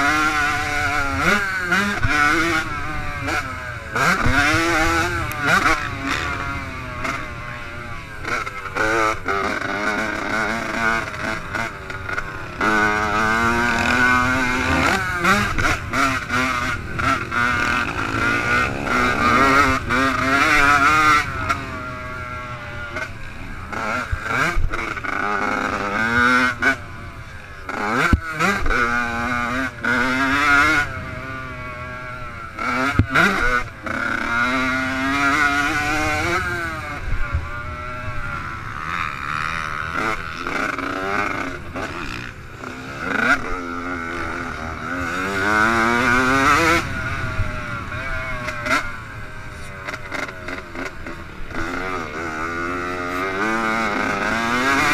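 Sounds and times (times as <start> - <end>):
motocross engine revving: 0.0 - 54.9.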